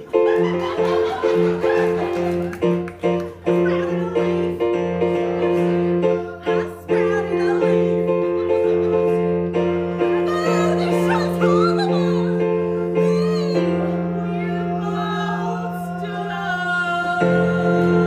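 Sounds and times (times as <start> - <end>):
keyboard playing piano chords: 0.0 - 18.0.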